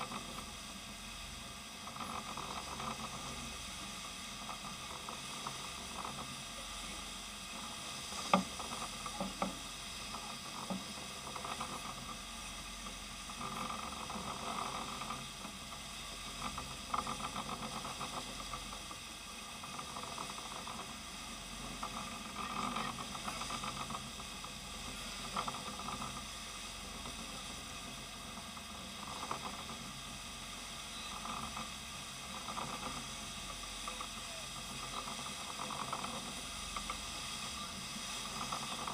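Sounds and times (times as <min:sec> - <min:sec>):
boat wake churning water: 0:00.0 - 0:38.9.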